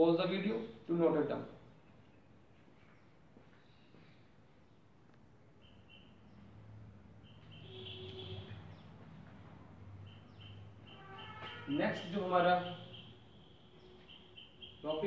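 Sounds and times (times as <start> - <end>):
bird chirping: 1.5 - 15.0.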